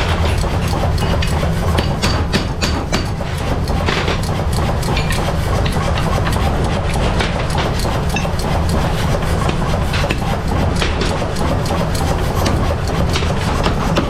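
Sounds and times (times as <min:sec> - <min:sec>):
irregular clicks and knocks: 0:00.0 - 0:14.0
machine rumbling: 0:00.0 - 0:14.0.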